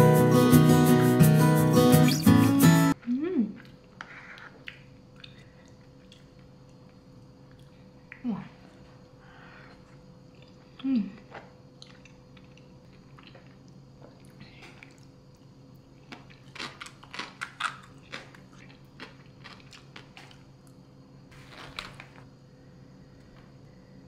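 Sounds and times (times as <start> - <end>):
faint steady hum: 2.9 - 24.0.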